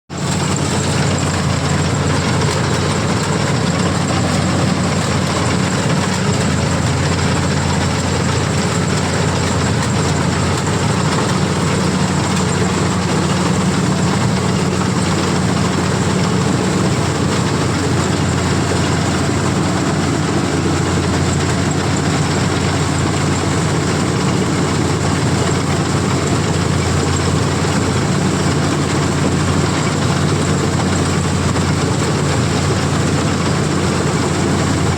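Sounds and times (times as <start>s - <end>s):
combine harvester diesel drone: 0.1s - 34.9s
machinery whirring: 0.2s - 34.9s.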